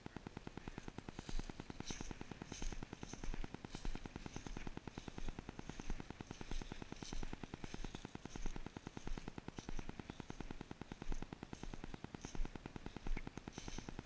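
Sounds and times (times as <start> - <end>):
flock of blackbirds chattering: 0.0 - 14.0.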